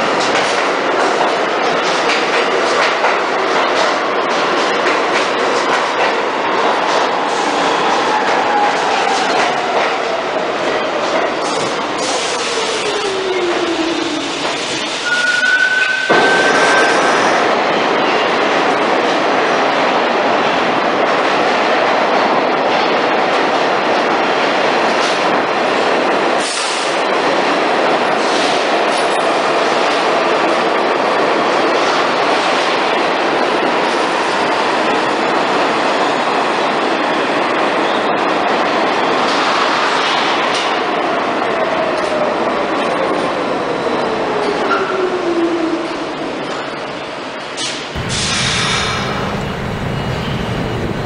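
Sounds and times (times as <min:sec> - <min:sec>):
subway train wheels rumbling: 0:00.0 - 0:51.0.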